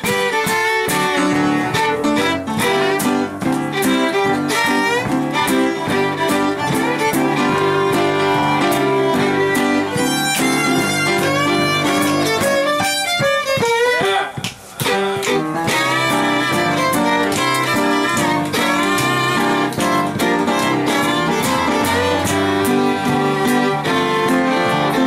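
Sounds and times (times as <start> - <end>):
acoustic guitar strumming: 0.0 - 25.0
fiddle playing swing tune: 0.0 - 25.0.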